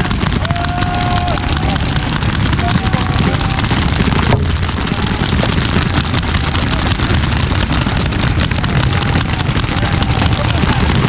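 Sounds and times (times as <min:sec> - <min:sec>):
paintball markers firing: 0:00.0 - 0:11.0
steady low rumble: 0:00.0 - 0:11.0.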